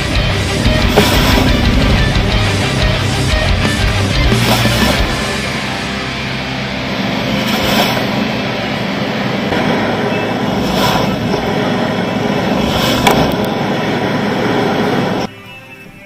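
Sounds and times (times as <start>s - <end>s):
motorcycle engine running: 0.0s - 15.3s.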